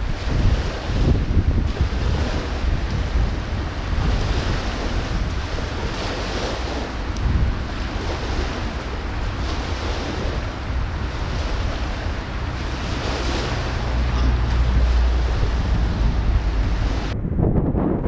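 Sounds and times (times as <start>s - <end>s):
water rushing: 0.0s - 17.2s
heavy low rumble: 0.0s - 18.0s
wind buffeting microphone: 0.0s - 18.0s.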